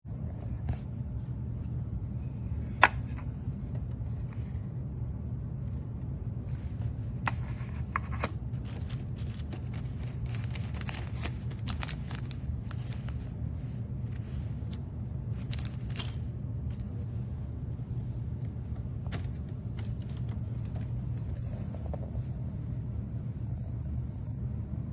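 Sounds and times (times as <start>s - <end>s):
steady low hum: 0.1s - 24.9s.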